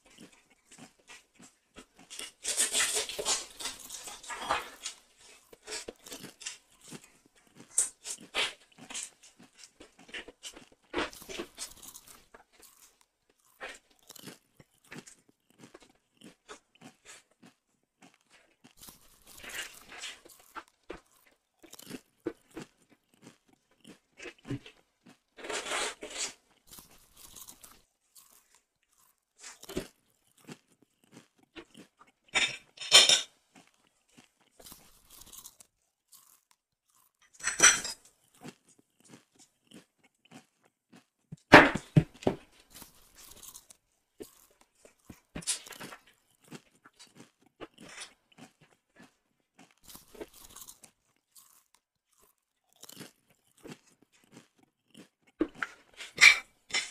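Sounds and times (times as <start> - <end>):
chewing and crunching bones: 0.0 - 56.9.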